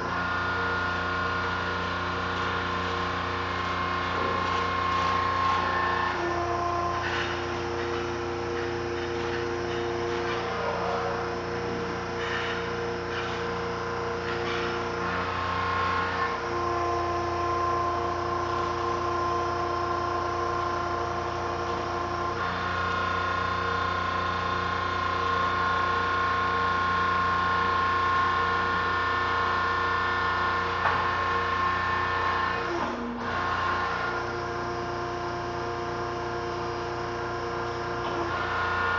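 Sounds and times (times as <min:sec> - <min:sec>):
hydraulic pump whine and hum: 0:00.0 - 0:38.9.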